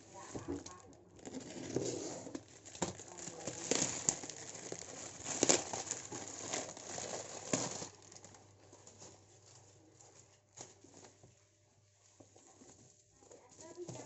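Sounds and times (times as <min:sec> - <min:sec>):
plastic packaging crinkling: 0:00.0 - 0:11.3, 0:12.2 - 0:14.0
bubble wrap rustling: 0:00.0 - 0:14.0.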